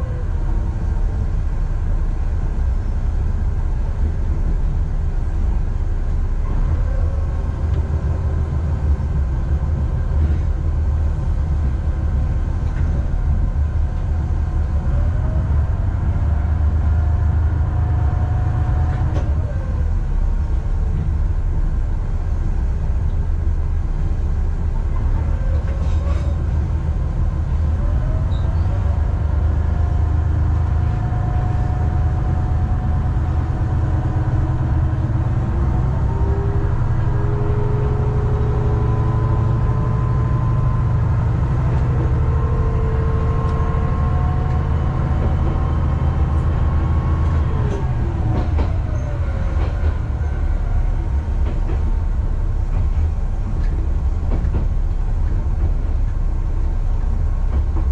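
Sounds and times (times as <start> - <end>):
diesel railcar engine drone: 0.0 - 57.9.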